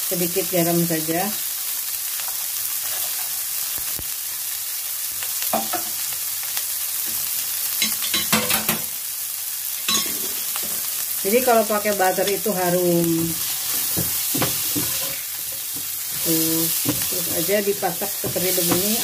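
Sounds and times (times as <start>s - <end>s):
asparagus sizzling in butter: 0.0s - 19.0s.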